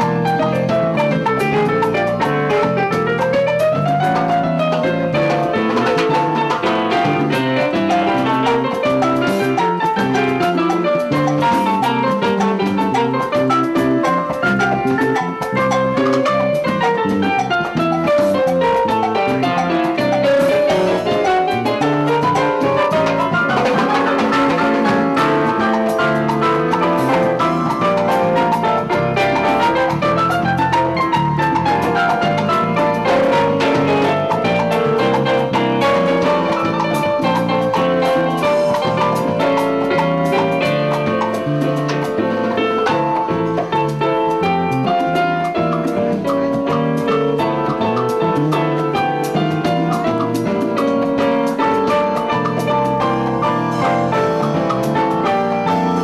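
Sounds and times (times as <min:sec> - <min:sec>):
latin percussion and drums: 0:00.0 - 0:56.0
stage piano: 0:00.0 - 0:56.0.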